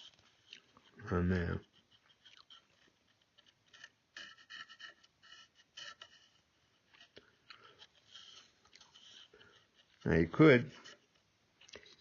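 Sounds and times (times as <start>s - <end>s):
pencil scratching: 0.0s - 11.3s.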